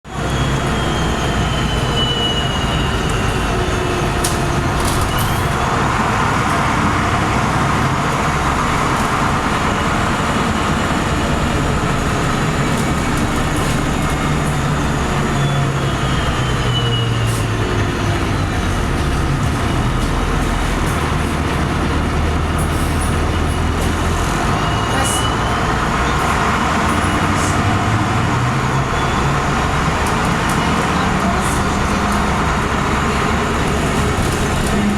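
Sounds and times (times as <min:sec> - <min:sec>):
bus engine running: 0:00.1 - 0:34.9.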